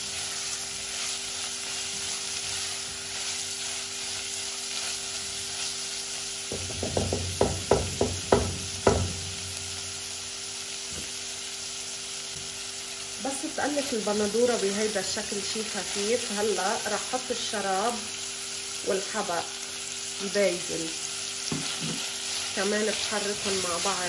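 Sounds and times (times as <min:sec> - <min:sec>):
meat and vegetables sizzling: 0:00.0 - 0:24.0.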